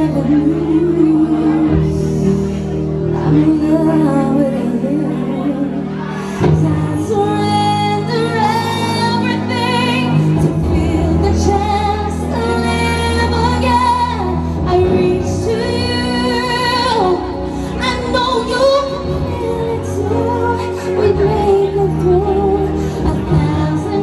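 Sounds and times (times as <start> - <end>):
backing music: 0.0 - 24.0
woman singing with vibrato: 0.0 - 24.0.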